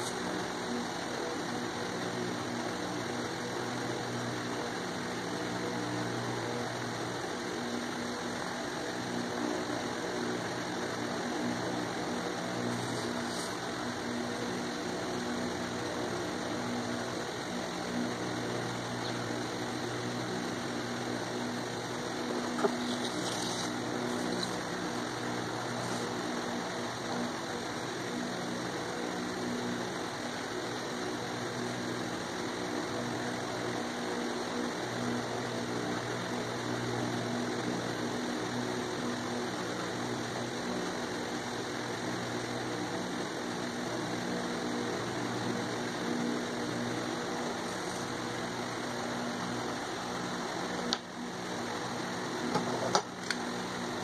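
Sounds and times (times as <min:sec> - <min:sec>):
low mechanical hum with hiss: 0:00.0 - 0:54.0.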